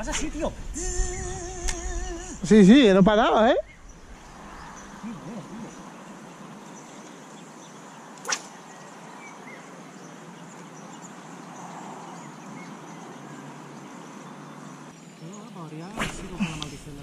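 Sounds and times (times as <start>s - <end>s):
breeze: 0.0s - 17.0s.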